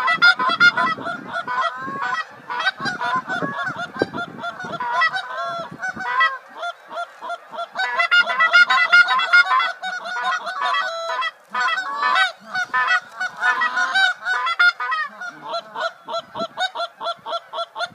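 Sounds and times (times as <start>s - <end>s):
flock of geese honking: 0.0s - 17.9s.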